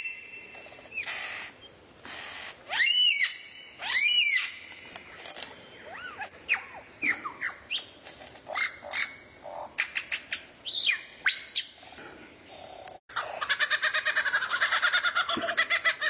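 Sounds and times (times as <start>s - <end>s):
songbird calls: 0.0s - 13.5s.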